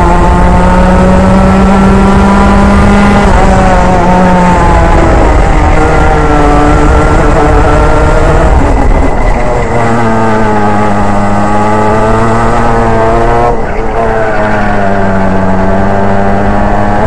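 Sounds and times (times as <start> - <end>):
kart engine running hard: 0.0 - 17.0.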